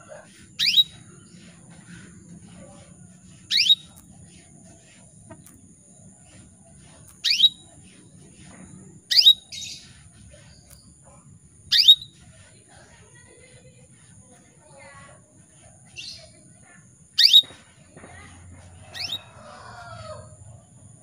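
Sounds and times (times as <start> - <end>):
canary chirps: 0.0 - 20.6.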